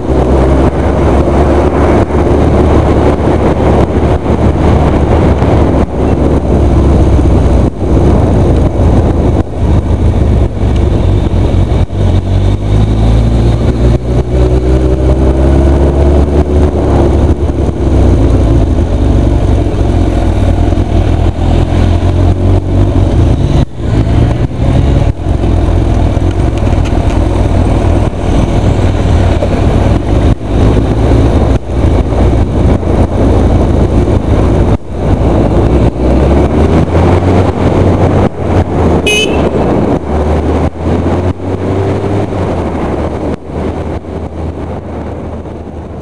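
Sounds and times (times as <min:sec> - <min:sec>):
motorcycle engine running: 0:00.0 - 0:46.0
wind buffeting microphone: 0:00.0 - 0:46.0.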